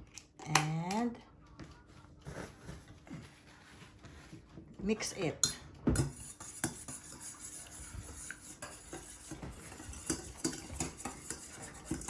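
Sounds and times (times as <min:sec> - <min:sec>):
utensil stirring batter in a bowl: 0:01.7 - 0:12.0.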